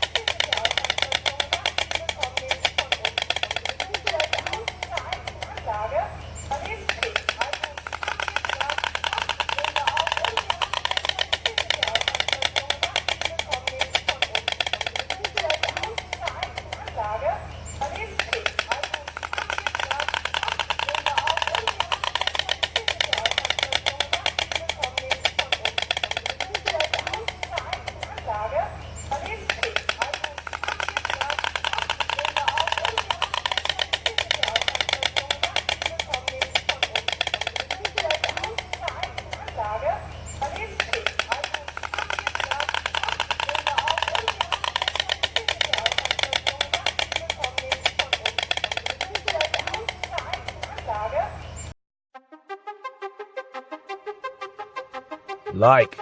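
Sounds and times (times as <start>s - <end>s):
stork bill clattering: 0.0s - 51.8s.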